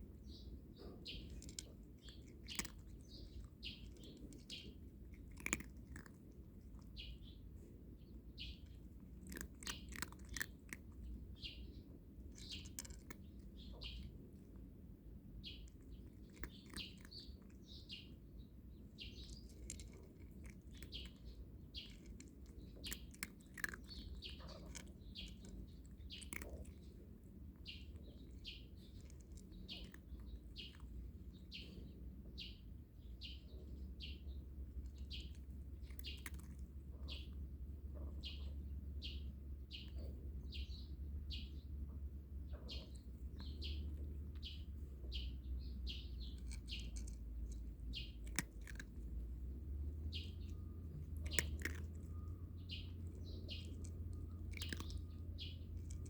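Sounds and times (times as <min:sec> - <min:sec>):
low steady rumble: 0:00.0 - 0:56.0
small bird chirping: 0:00.0 - 0:56.0.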